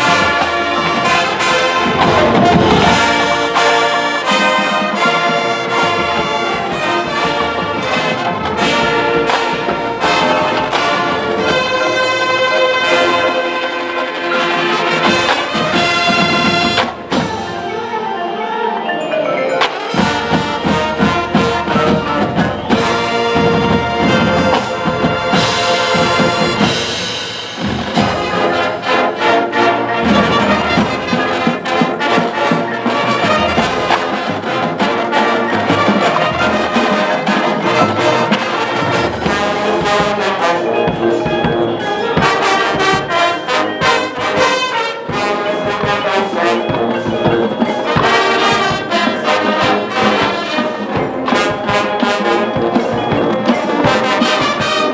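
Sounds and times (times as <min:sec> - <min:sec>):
marching drums: 0:00.0 - 0:17.9, 0:19.5 - 0:54.9
brass melody: 0:00.0 - 0:54.9.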